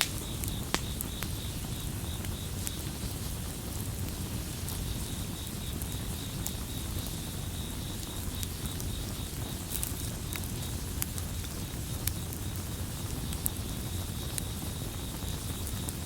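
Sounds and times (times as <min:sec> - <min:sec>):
campfire crackling and popping: 0:00.0 - 0:16.0
crickets chirping: 0:00.0 - 0:16.0.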